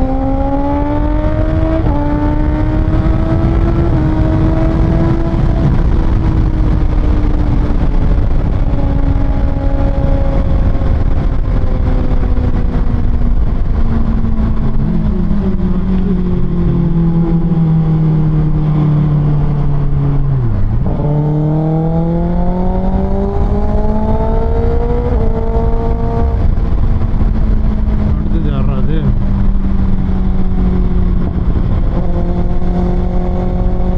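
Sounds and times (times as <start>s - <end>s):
motorcycle engine: 0.0s - 33.9s
wind and road noise: 0.0s - 33.9s.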